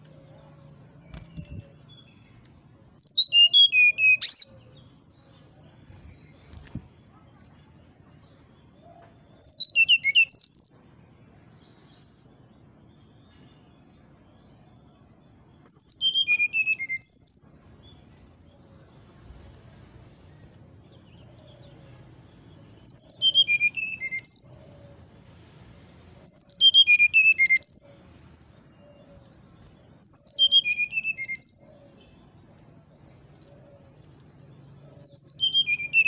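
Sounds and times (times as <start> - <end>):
bird singing: 0.0 - 36.0.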